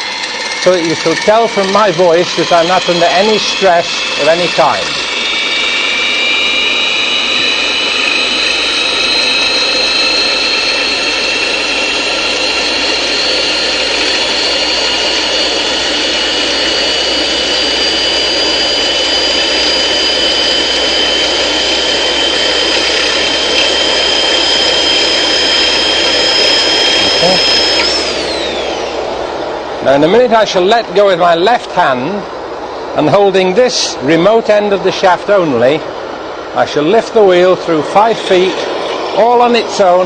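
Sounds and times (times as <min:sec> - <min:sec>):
motor whine rising in pitch: 0:00.0 - 0:40.0.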